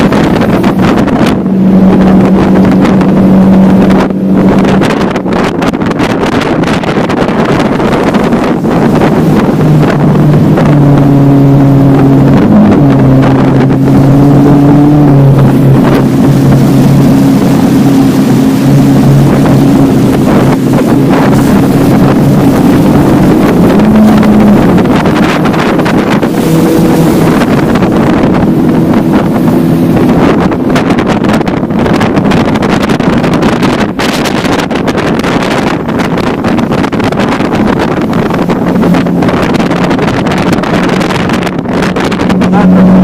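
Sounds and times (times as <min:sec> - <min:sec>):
motorboat engine drone: 0:00.0 - 0:43.0
water rushing: 0:00.0 - 0:43.0.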